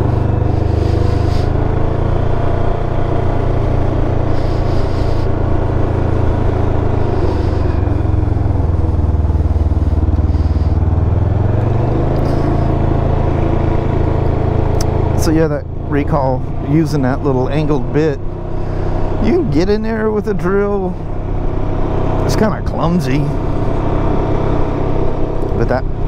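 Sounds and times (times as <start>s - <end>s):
two-cylinder engine running: 0.0s - 26.0s.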